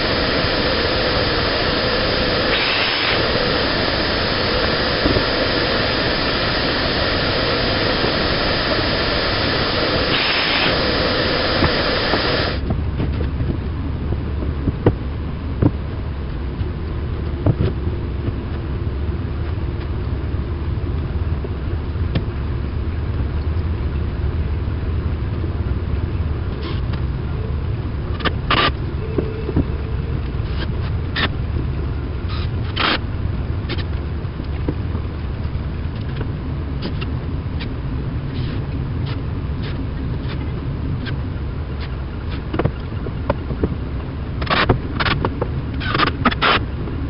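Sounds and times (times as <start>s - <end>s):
loud steady machine noise: 0.0s - 47.0s
low steady hum: 0.0s - 47.0s.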